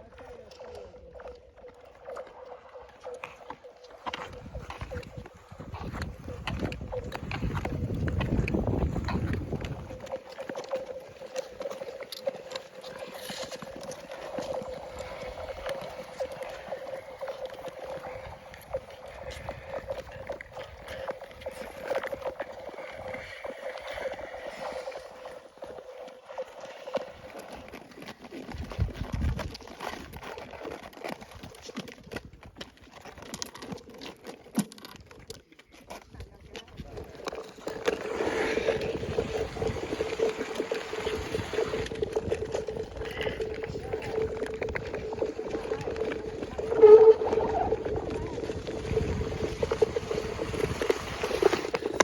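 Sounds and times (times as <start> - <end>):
ice cracking under skates: 0.6 - 52.0.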